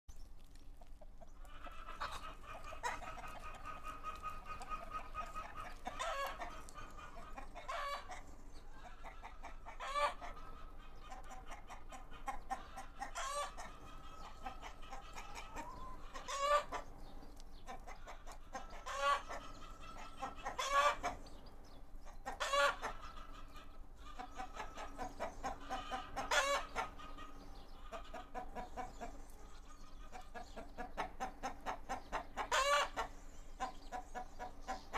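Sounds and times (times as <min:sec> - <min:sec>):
chickens clucking: 0:00.2 - 0:34.9
chicken squawks: 0:01.4 - 0:08.2, 0:08.8 - 0:16.8, 0:17.9 - 0:21.2, 0:22.2 - 0:28.8, 0:29.6 - 0:34.9.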